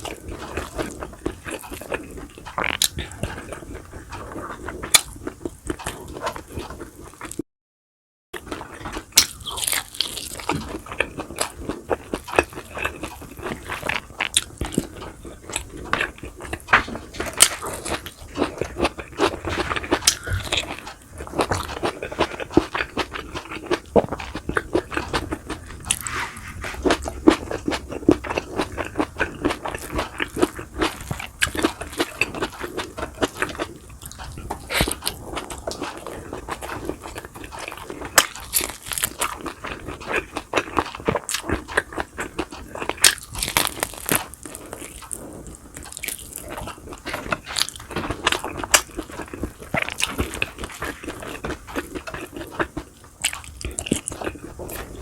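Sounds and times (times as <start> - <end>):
crunching and chewing food: 0.0 - 7.4, 8.4 - 55.0.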